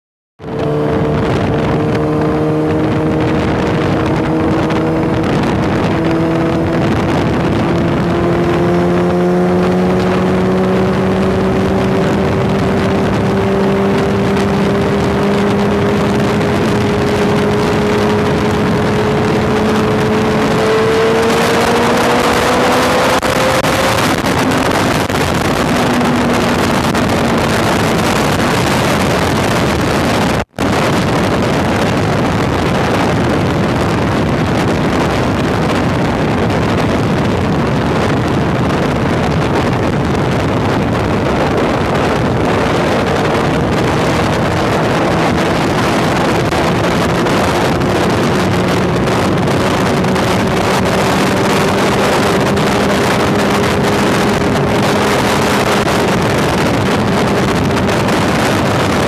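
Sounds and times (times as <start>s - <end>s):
motorcycle engine accelerating: 0.4s - 59.0s
wind rushing over microphone: 0.4s - 59.0s.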